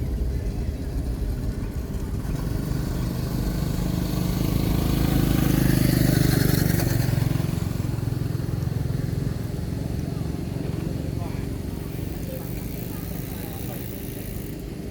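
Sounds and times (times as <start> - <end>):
motor vehicle passing: 0.0 - 14.9.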